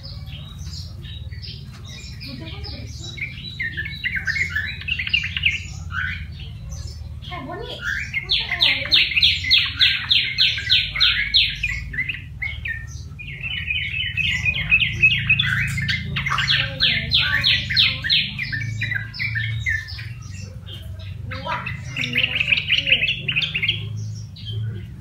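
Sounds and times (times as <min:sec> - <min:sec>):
bird chatter: 0:00.0 - 0:25.0
bird singing sharp notes: 0:02.9 - 0:25.0.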